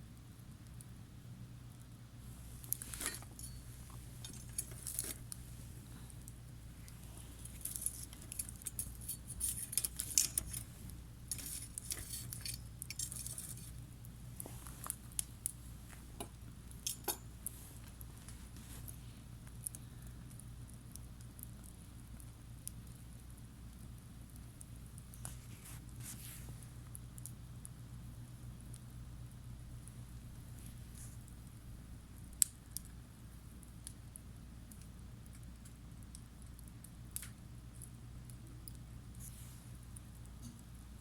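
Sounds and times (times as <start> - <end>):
campfire crackling and popping: 0.0 - 41.0
steady low hum: 0.0 - 41.0.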